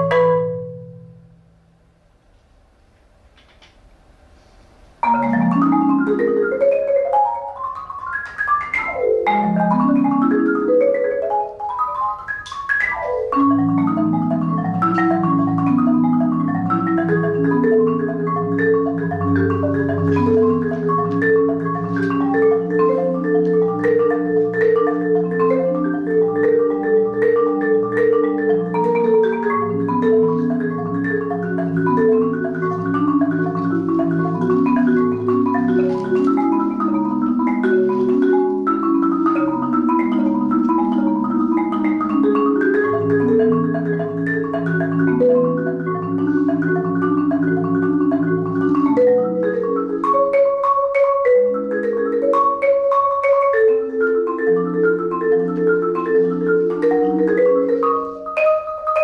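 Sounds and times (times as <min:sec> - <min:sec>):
marimba playing: 0:00.0 - 0:01.8, 0:05.0 - 0:59.0.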